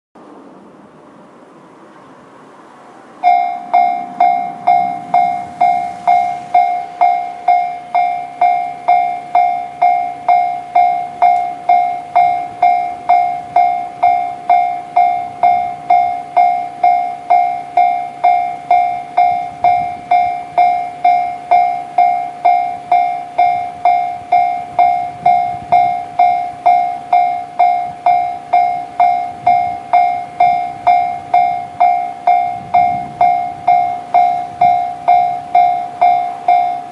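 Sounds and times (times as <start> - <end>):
level crossing warning bell: 3.2 - 36.9.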